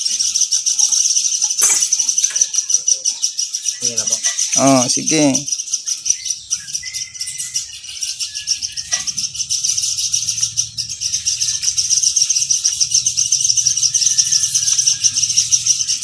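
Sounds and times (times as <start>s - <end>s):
faint chirps: 0.0s - 16.0s
pulsing chirring chorus: 0.0s - 16.0s.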